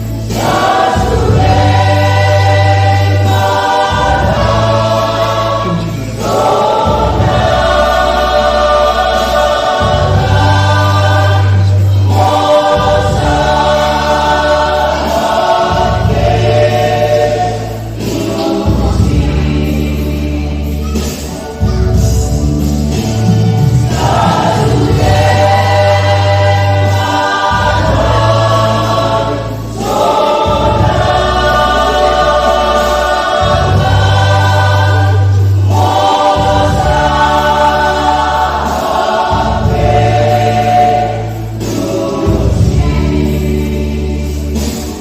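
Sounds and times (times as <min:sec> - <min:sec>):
choir singing a hymn: 0:00.0 - 0:45.0.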